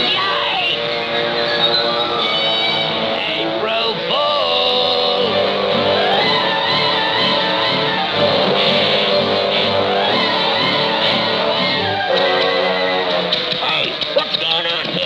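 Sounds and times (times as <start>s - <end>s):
cartoon music with sliding notes: 0.0s - 15.0s.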